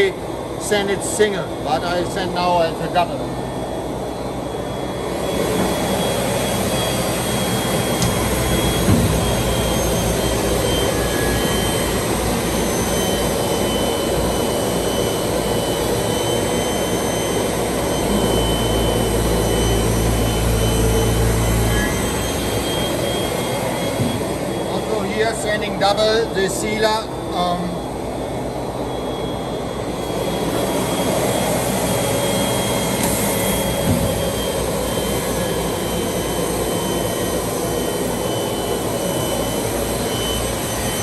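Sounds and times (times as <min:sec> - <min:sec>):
deep machine hum: 0:00.0 - 0:41.0.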